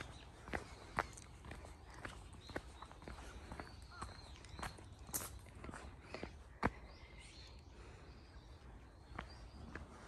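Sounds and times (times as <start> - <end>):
footsteps on paved path: 0.0 - 10.0.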